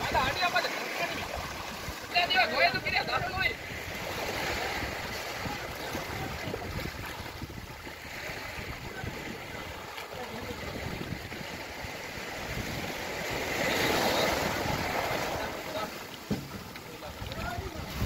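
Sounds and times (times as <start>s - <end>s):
small waves washing up sand: 0.0s - 18.0s.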